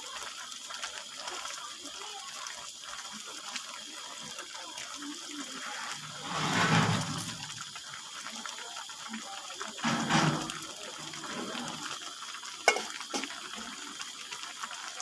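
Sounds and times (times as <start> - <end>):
gush of water: 0.0 - 15.0
water running: 0.0 - 15.0.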